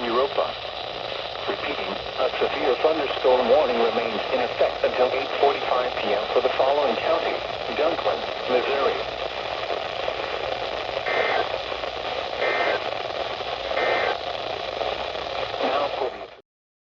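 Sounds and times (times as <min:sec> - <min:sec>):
electronic data bursts: 0:00.0 - 0:16.4
radio static hiss: 0:00.0 - 0:16.4.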